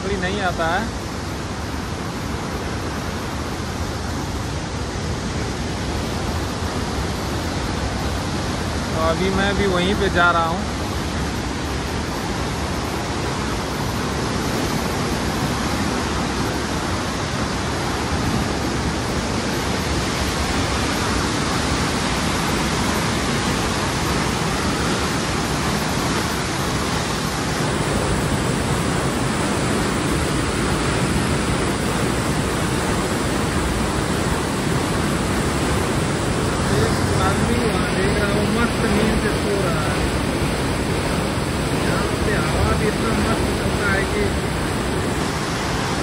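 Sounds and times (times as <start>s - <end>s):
river rushing through gates: 0.0s - 46.0s.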